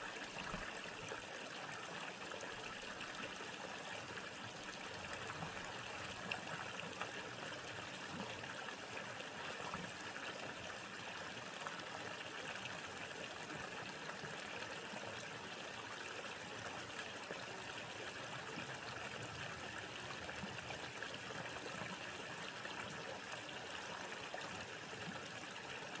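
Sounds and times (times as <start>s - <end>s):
stream running water: 0.0s - 26.0s.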